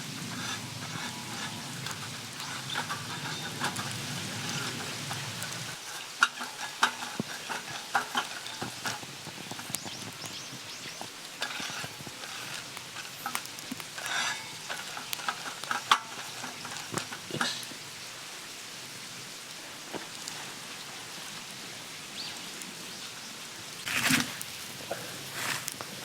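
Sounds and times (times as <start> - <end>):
food sizzling on a griddle: 0.0 - 26.0.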